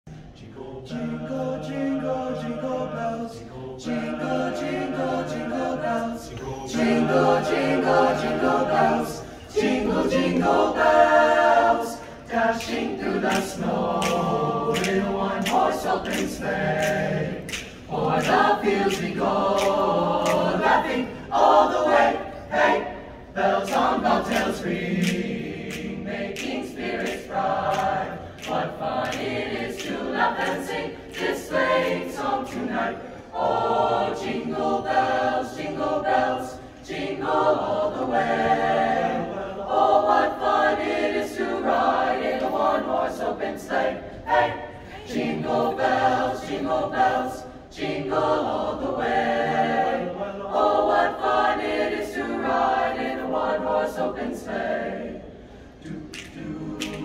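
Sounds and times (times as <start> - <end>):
choir singing a cappella: 0.1 - 57.0.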